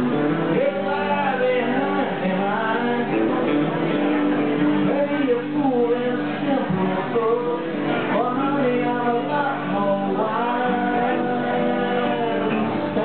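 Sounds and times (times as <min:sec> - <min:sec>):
electric guitar: 0:00.0 - 0:13.0
man singing into a microphone: 0:00.0 - 0:13.0.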